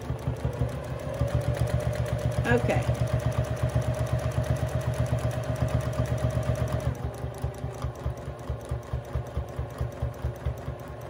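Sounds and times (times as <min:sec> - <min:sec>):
sewing machine motor whine: 0:00.0 - 0:11.0
sewing machine stitching: 0:00.0 - 0:11.0.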